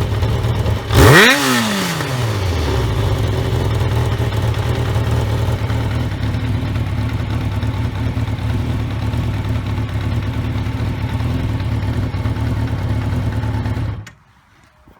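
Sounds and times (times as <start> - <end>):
motorcycle engine idling: 0.0 - 14.1.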